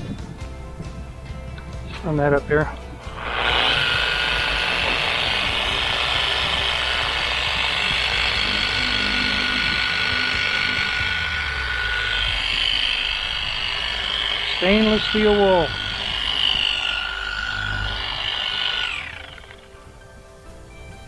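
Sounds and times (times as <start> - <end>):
electric polishing buffer whining: 2.9 - 19.9.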